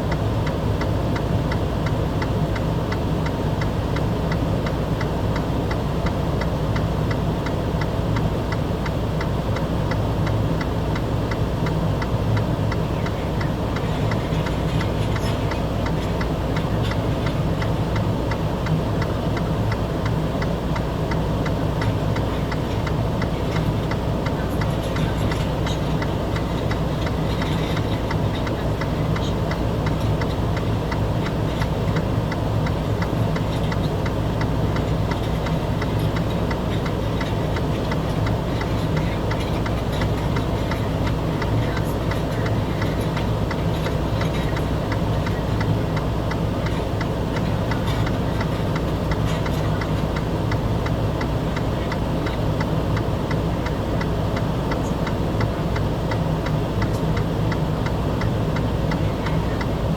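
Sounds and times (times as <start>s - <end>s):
vehicle engine idling: 0.0s - 59.9s
rapid irregular ticks: 0.4s - 59.9s.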